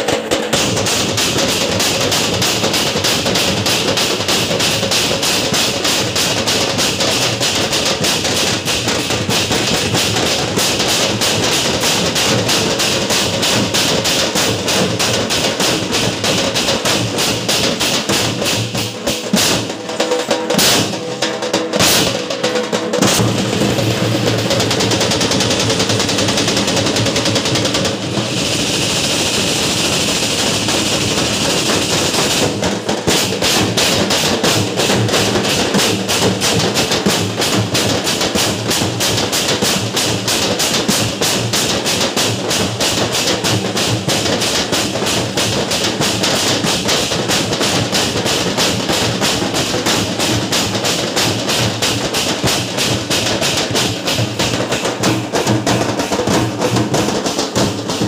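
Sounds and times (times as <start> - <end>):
drums beaten in fast rhythm: 0.0 - 58.0.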